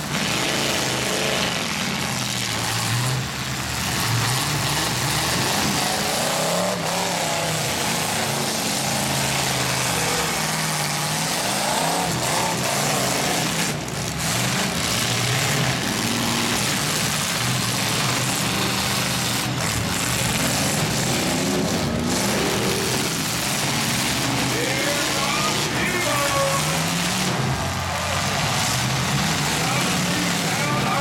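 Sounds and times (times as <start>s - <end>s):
truck engines revving: 0.0s - 31.0s.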